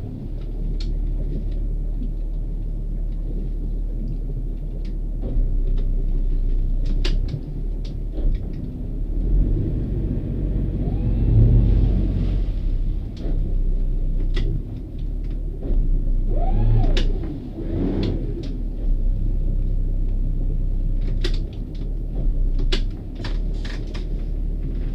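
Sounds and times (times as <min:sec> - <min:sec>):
boat engine low rumble: 0:00.0 - 0:24.9.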